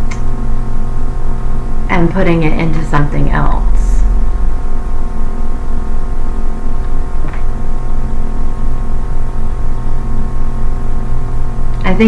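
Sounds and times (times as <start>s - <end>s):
low hum with steady tones: 0.0s - 12.0s.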